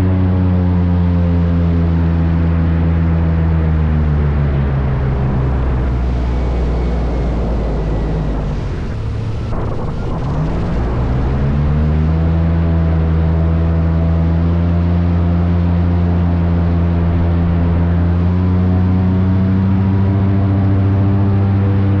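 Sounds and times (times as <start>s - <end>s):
airboat engine and propeller: 0.0s - 22.0s.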